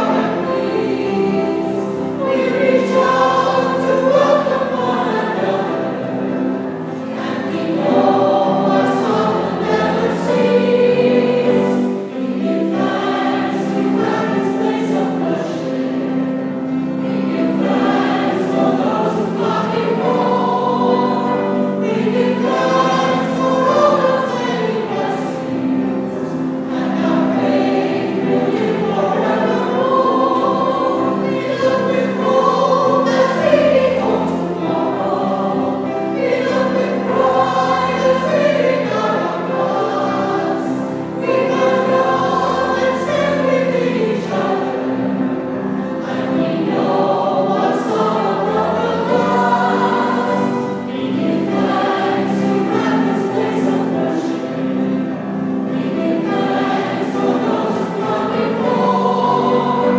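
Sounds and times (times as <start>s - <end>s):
choir singing: 0.0s - 59.9s
organ chords: 0.0s - 59.9s.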